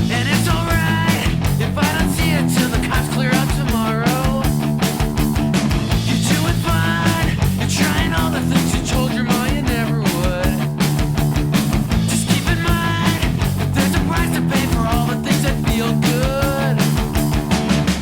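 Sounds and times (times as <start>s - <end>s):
rock music with driving drums: 0.0s - 18.0s.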